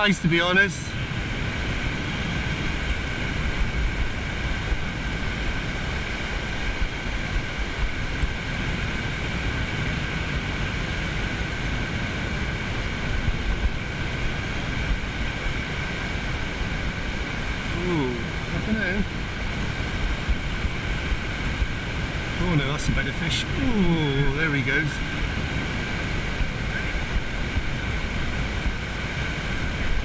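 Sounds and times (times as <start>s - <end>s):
small waves on sandy beach: 0.0s - 30.0s
wind buffeting microphone: 0.0s - 30.0s.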